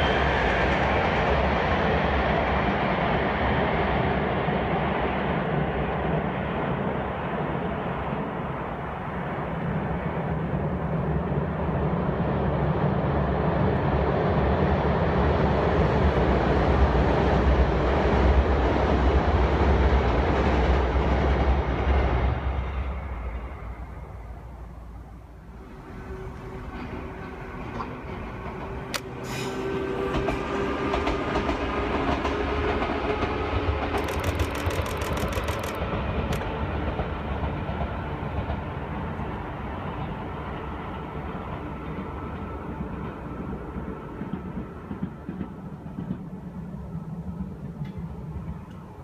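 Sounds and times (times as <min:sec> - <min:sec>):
freight train rumbling across bridge: 0:00.0 - 0:49.0.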